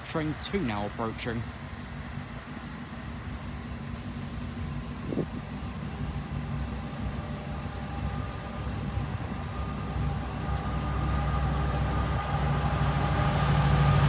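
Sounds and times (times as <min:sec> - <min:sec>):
faint steady whine: 0:00.0 - 0:14.0
locomotive engine rumble: 0:00.0 - 0:14.0.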